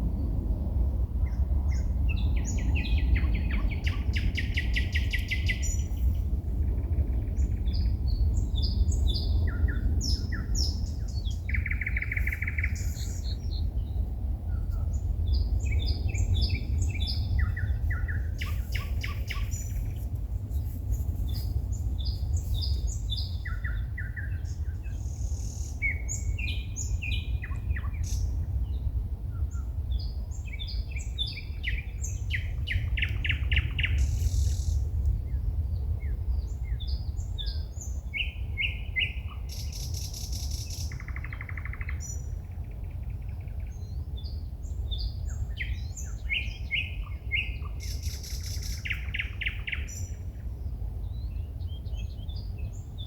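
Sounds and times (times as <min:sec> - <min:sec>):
steady low rumble: 0:00.0 - 0:53.0
songbird singing: 0:01.2 - 0:53.0.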